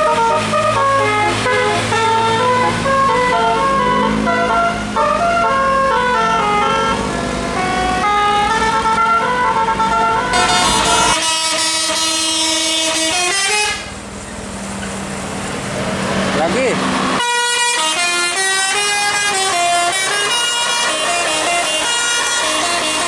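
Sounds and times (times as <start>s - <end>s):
multi-tone bus horn tune: 0.0s - 14.0s, 17.1s - 23.0s
engine and road noise: 0.0s - 23.0s.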